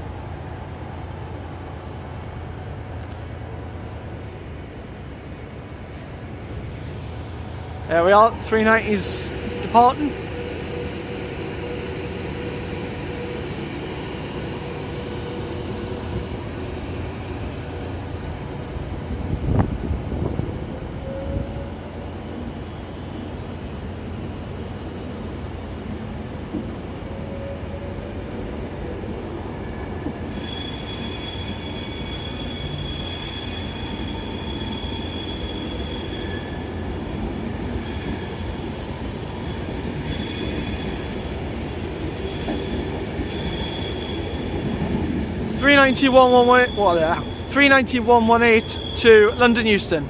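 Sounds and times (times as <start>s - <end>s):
electric train rumbling: 0.0s - 50.0s
train wheels squealing: 6.6s - 18.8s, 21.0s - 47.5s, 48.1s - 49.5s.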